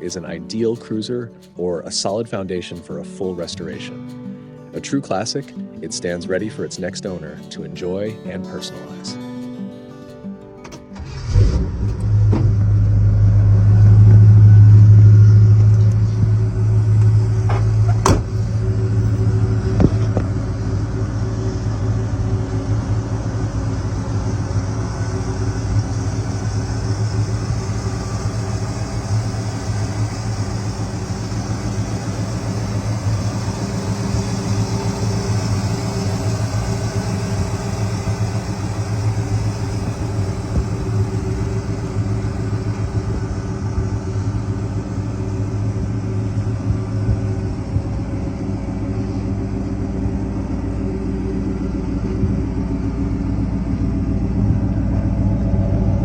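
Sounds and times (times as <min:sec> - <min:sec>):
car engine idling: 0:10.6 - 0:56.0.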